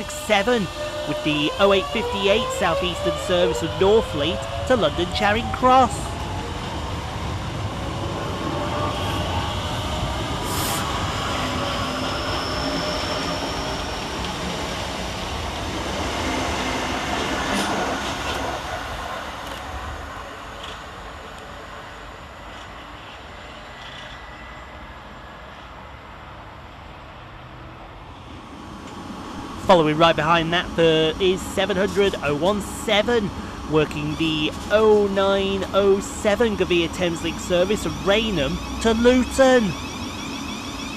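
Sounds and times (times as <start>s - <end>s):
train wheels rumbling on rail: 0.0s - 21.7s, 27.8s - 40.9s.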